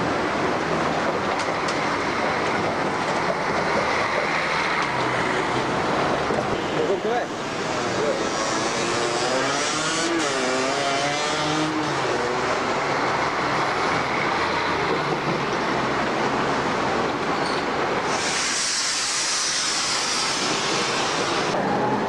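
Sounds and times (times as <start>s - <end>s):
bus engine pulling away: 0.0s - 22.0s
bus passing with loud hiss: 0.0s - 22.0s
busy street traffic: 0.0s - 22.0s.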